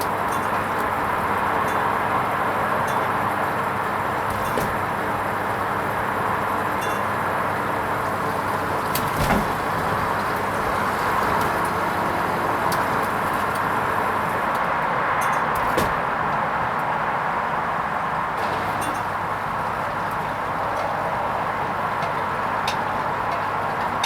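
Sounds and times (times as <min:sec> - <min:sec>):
washing machine running: 0:00.0 - 0:16.6, 0:17.4 - 0:24.0.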